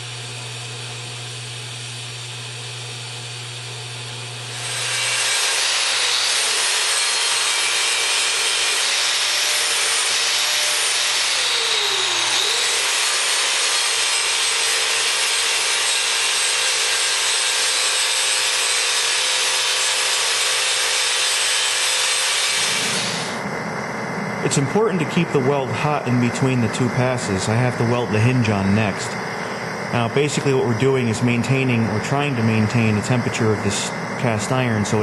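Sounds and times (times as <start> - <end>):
angle grinder grinding metal: 4.4 - 23.5, 24.4 - 35.0.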